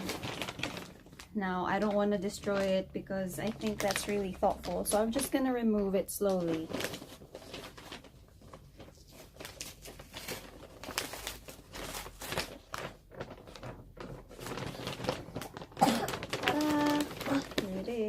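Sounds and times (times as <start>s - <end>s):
paper crinkling and rustling: 0.0s - 18.0s.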